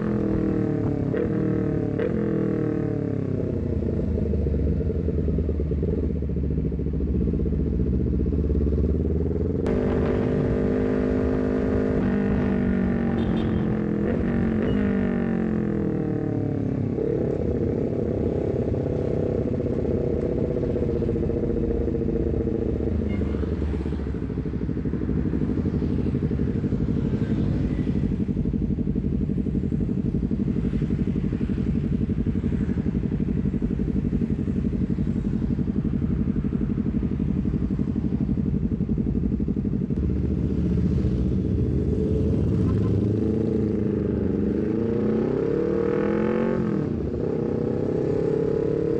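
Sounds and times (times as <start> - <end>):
motorcycle engine while riding: 0.0 - 48.9.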